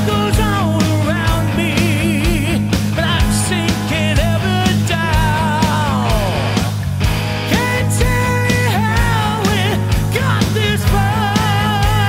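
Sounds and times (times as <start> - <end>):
heavy metal band playing live: 0.0 - 12.0.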